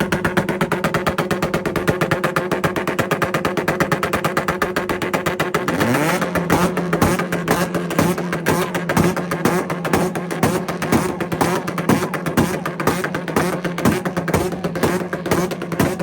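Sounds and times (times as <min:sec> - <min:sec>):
engines stuttering on launch limiter: 0:00.0 - 0:16.0.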